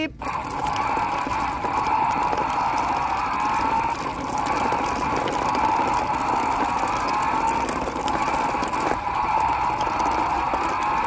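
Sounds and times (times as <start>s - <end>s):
toy truck whirring hum: 0.0s - 11.0s.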